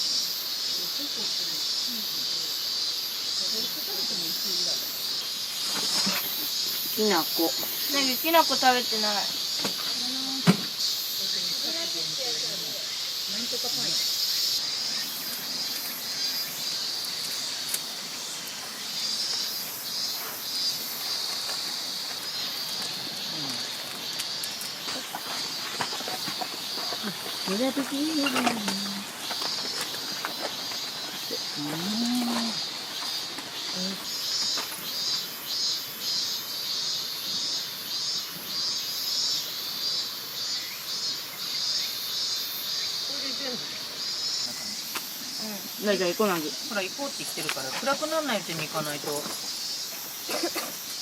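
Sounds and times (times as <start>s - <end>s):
higher pulsing insect call: 0.0s - 51.0s
insects chirring: 0.0s - 51.0s.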